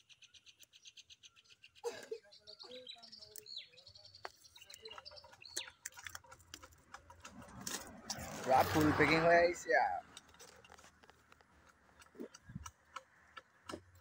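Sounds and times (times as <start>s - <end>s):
small birds chirping: 0.0s - 7.9s, 9.3s - 14.0s.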